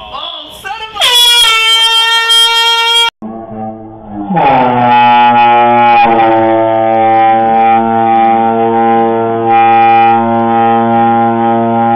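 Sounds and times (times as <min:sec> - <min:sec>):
air horn blaring: 0:01.0 - 0:11.9.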